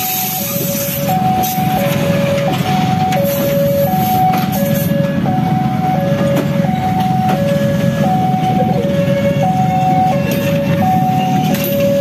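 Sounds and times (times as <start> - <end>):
train coaches rumbling: 0.0 - 12.0
two-tone crossing warning alarm: 0.0 - 12.0.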